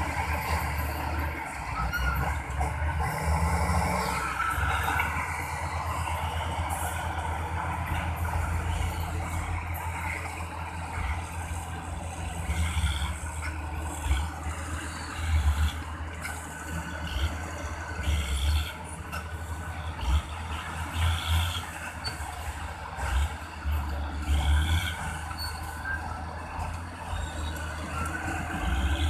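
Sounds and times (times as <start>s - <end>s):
heavy diesel engines rumbling: 0.0s - 29.0s.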